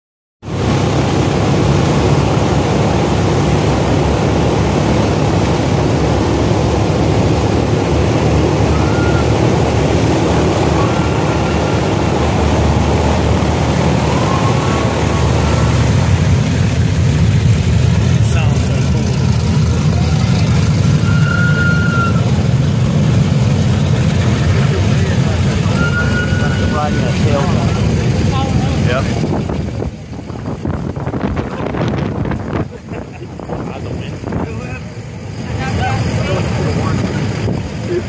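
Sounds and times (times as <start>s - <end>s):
propeller aircraft engines running: 0.4s - 38.0s.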